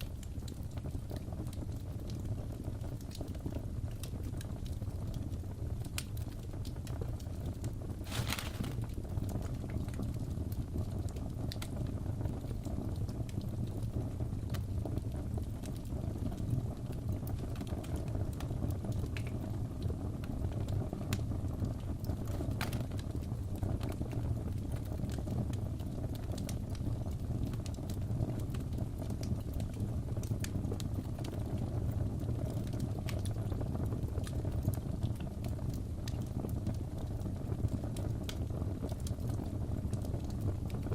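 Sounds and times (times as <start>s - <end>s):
fire pops and snaps: 0.0s - 40.9s
low rumble of flames: 0.0s - 40.9s.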